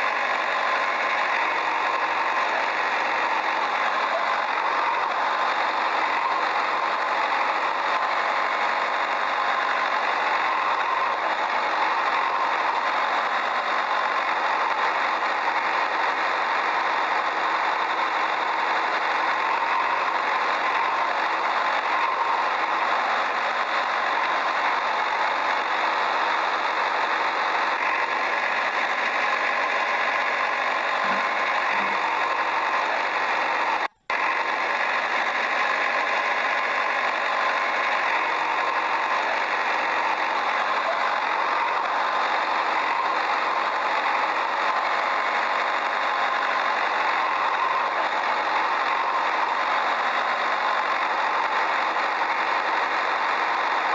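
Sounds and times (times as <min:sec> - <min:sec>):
motor running: 0:00.0 - 0:53.9.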